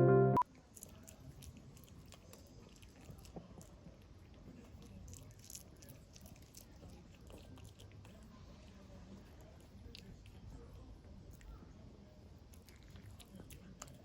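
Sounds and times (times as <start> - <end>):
pet gnawing on a chew: 0.6 - 11.6, 12.4 - 14.0.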